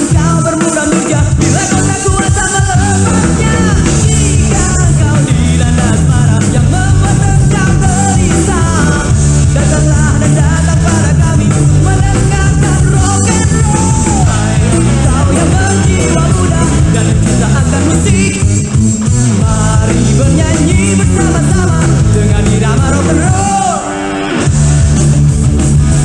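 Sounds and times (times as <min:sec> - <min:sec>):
rock song with singer and band: 0:00.0 - 0:26.0.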